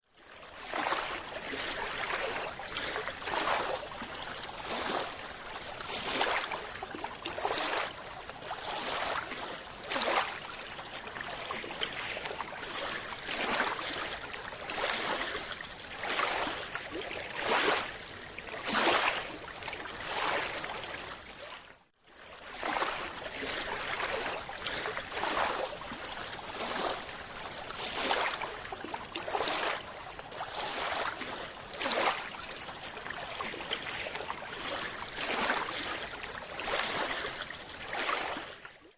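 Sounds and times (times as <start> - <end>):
water swishing and rushing: 0.1 - 38.9.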